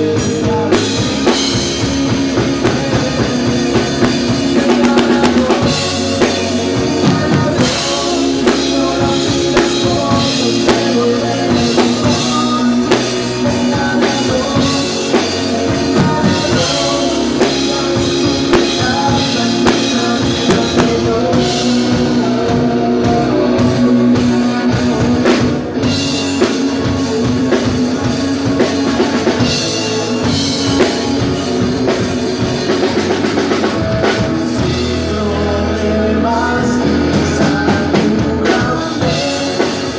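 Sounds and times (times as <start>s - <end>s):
drum kit and bass drum: 0.0s - 39.9s
rock band playing live: 0.0s - 39.9s.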